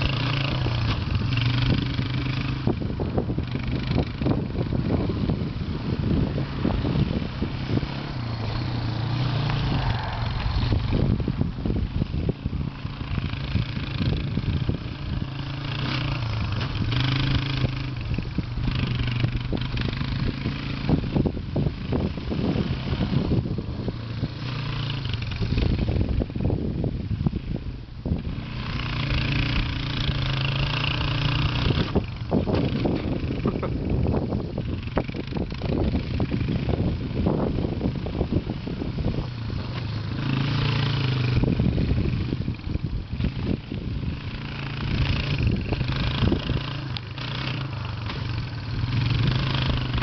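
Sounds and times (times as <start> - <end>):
quad bike engine running: 0.0 - 50.0.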